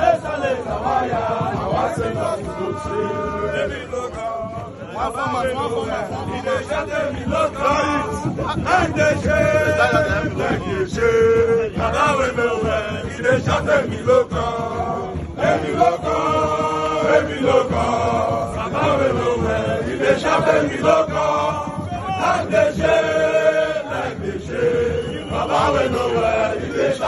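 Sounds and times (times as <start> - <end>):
group of men chanting a song: 0.0 - 27.0.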